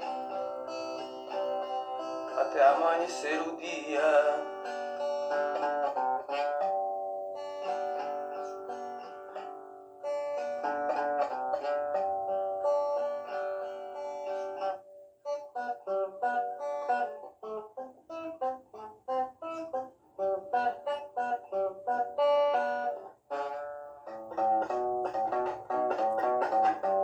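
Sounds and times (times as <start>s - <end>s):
plucked guitar music: 0.0s - 27.0s.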